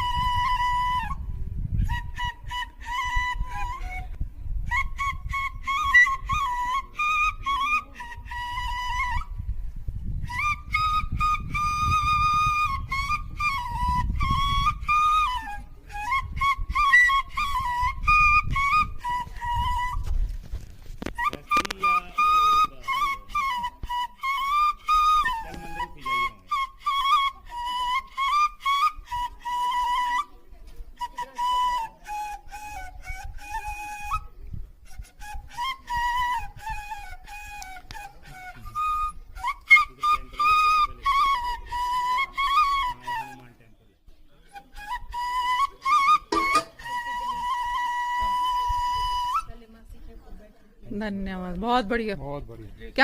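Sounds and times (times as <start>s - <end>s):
solo flute melody: 0.0s - 43.6s, 44.4s - 49.8s.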